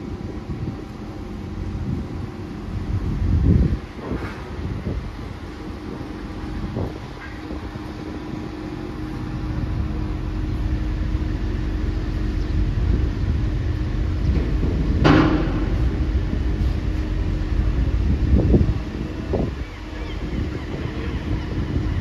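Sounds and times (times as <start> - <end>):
ferry engines rumbling: 0.0 - 22.0
wind buffeting microphone: 0.0 - 22.0.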